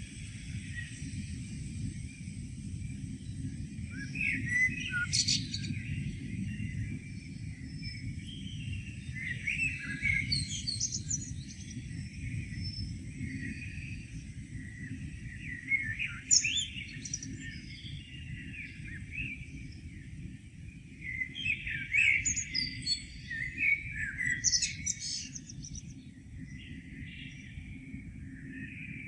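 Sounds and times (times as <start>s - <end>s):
songbirds chirping and singing: 3.3s - 29.0s.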